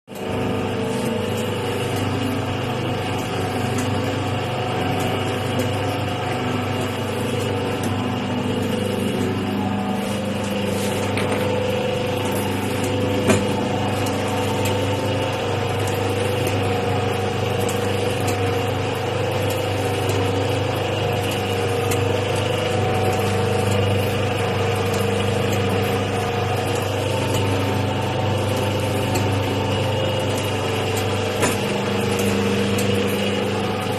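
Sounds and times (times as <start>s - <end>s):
packing machine humming: 0.1s - 33.9s
machine clicks: 0.2s - 33.9s.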